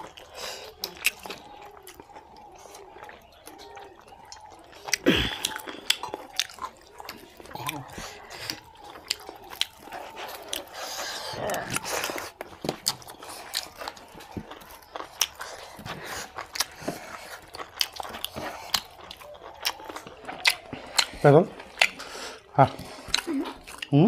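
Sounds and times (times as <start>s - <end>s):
chewing and mouth noises: 0.0s - 24.0s.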